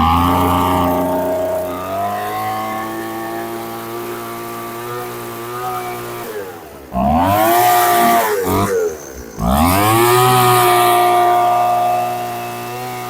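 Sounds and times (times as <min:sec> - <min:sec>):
leaf blower engine revving: 0:00.0 - 0:13.0.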